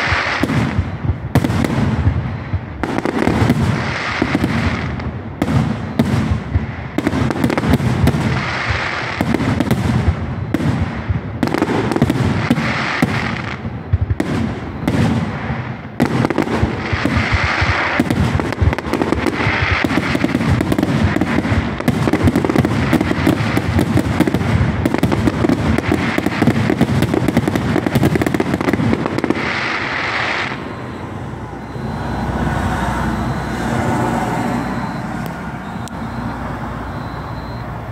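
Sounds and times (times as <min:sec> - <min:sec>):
fireworks shells bursting: 0:00.0 - 0:37.5
fireworks crackling: 0:00.0 - 0:37.9.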